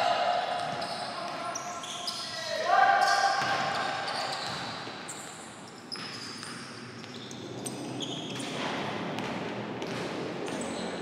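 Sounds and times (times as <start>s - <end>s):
sneakers squeaking: 0.3s - 9.3s, 10.4s - 11.0s.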